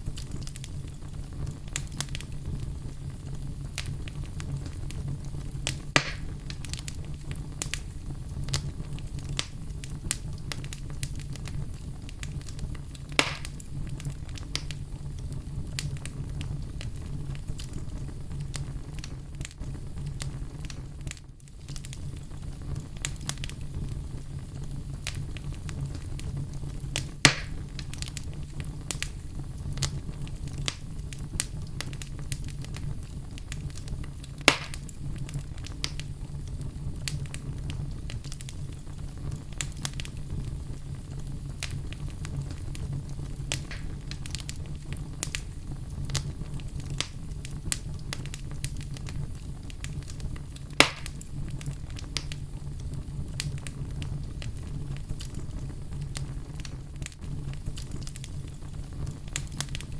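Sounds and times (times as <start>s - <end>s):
fire popping loudly: 0.0s - 59.9s
fireplace fire crackling: 0.0s - 59.9s.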